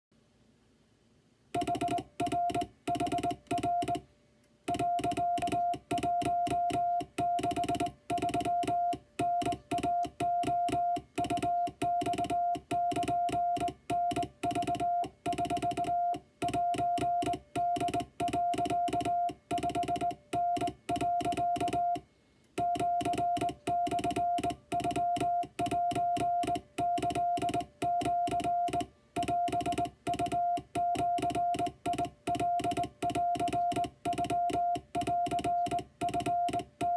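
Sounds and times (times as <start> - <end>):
morse code tone: 1.6 - 4.0, 4.7 - 22.0, 22.6 - 36.9
telegraph key clicks: 4.7 - 22.0, 22.6 - 36.9.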